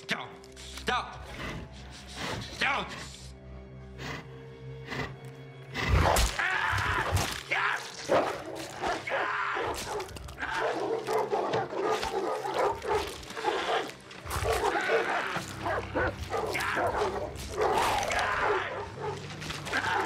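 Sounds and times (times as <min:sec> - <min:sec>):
dogs snarling and growling: 0:01.2 - 0:20.0.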